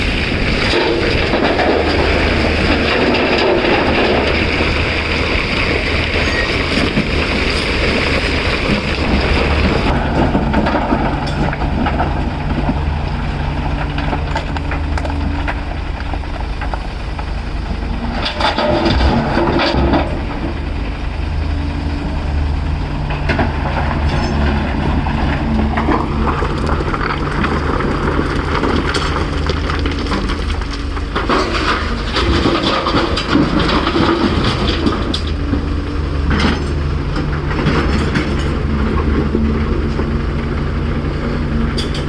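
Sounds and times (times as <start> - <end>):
excavator diesel engine under load: 0.0 - 42.0
rock and dirt grinding and clattering: 0.0 - 42.0.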